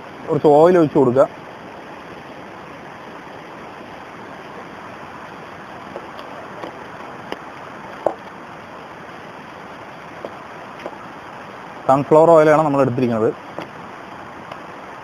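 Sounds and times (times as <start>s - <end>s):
rocky stream running: 0.0s - 15.0s.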